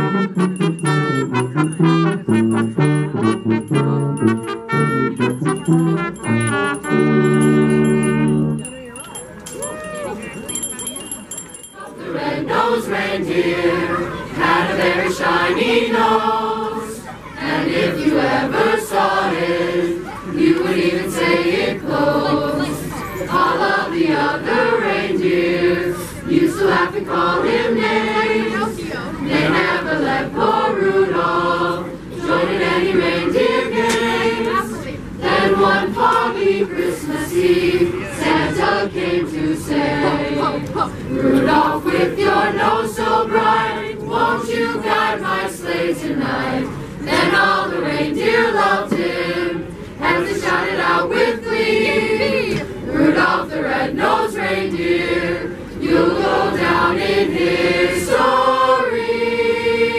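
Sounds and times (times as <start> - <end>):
choir singing a carol: 10.6 - 59.9.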